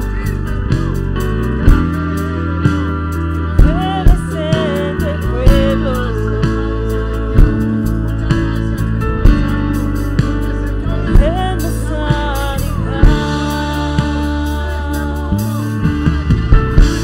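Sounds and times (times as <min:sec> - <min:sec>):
guitar: 0:00.0 - 0:17.0
keyboard chords: 0:00.0 - 0:17.0
man singing: 0:00.0 - 0:17.0
strong drum beats: 0:00.0 - 0:17.0.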